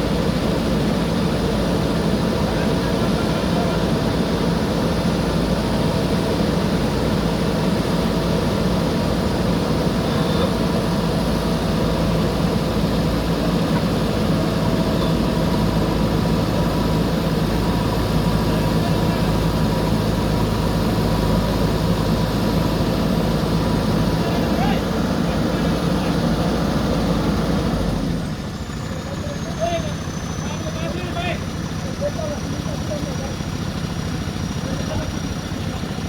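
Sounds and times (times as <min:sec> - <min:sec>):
backhoe diesel engine running: 0:00.0 - 0:36.0.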